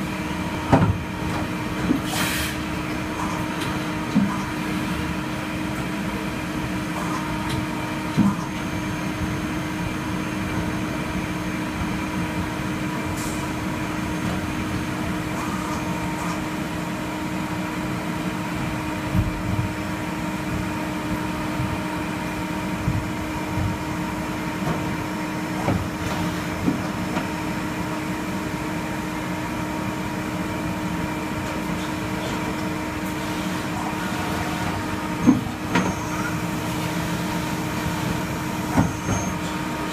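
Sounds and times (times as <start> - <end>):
lathe mechanical hum: 0.0 - 39.9.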